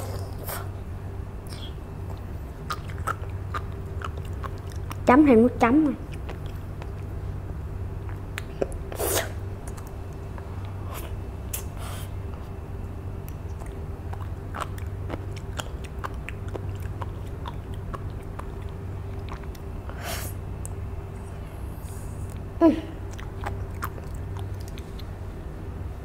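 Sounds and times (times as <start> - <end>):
soft crunching chewing: 1.5 - 5.1, 6.0 - 7.3, 8.0 - 9.0, 9.6 - 25.5.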